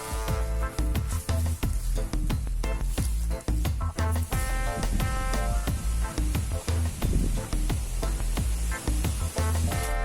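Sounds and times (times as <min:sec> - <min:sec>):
bass-heavy background music: 0:00.0 - 0:10.0.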